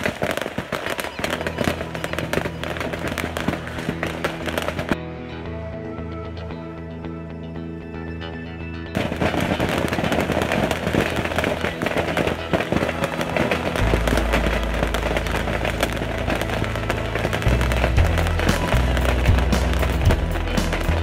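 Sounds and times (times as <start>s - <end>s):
firecrackers popping and crackling: 0.0s - 5.0s, 9.0s - 21.0s
background music: 0.0s - 21.0s.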